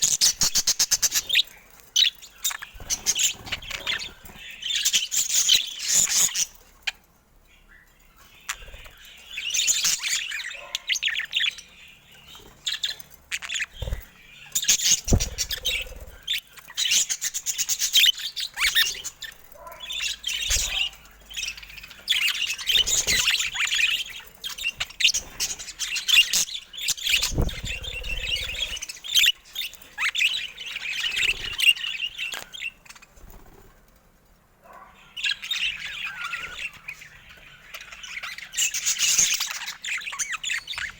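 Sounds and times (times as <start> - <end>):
budgerigars chattering and squawking: 0.0 - 7.0, 7.6 - 33.6, 34.7 - 40.9.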